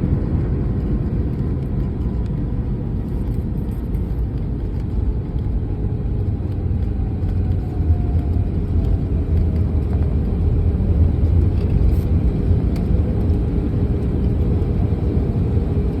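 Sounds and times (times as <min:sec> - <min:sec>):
engine and airflow rumble: 0:00.0 - 0:16.0.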